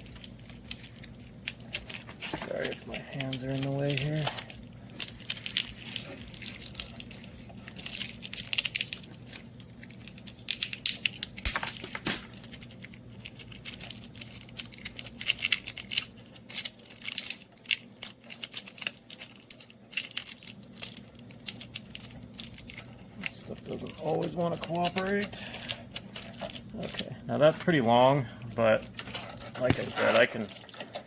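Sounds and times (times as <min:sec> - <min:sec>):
crinkling of plastic: 0:00.0 - 0:31.0
faint low hum: 0:00.0 - 0:31.0.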